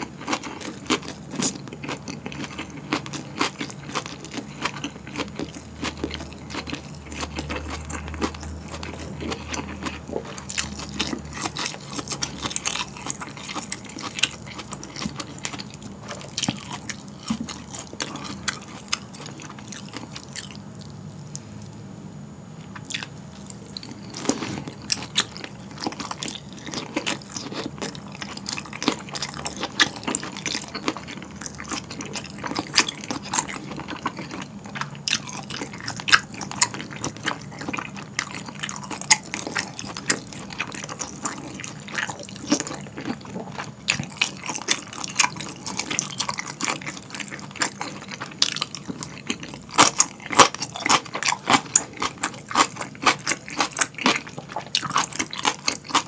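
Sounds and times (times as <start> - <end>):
moist chewing and crunching: 0.0 - 20.9, 22.8 - 56.0.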